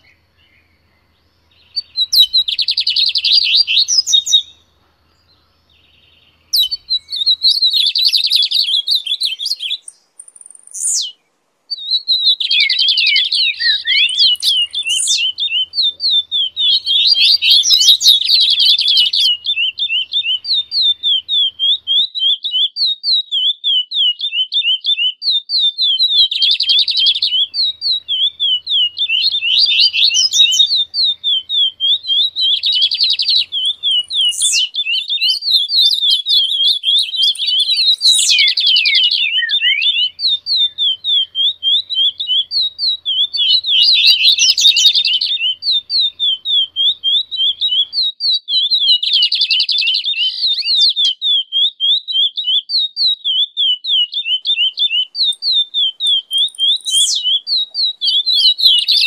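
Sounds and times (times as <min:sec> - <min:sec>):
buzzy bird trills: 0:00.0 - 0:22.1, 0:25.9 - 0:47.9, 0:54.5 - 0:59.0
high bird chirps: 0:00.0 - 0:59.0.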